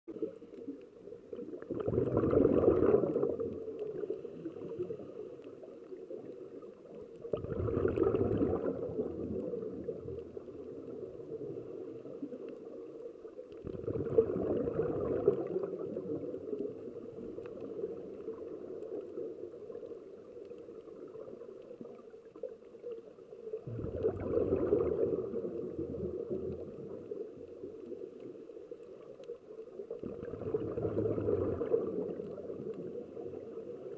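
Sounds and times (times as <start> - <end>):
underwater exhaled bubbles gurgling: 0.1 - 33.9.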